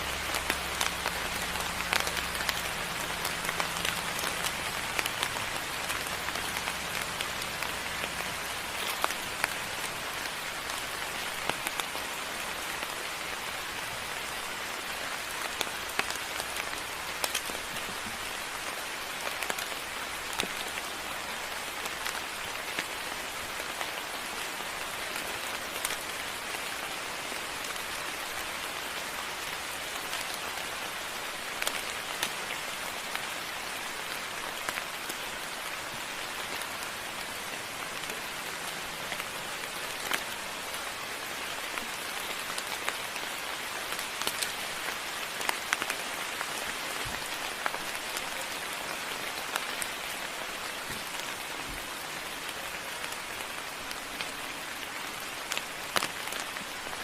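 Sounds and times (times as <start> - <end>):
moderate rain falling: 0.0 - 57.0.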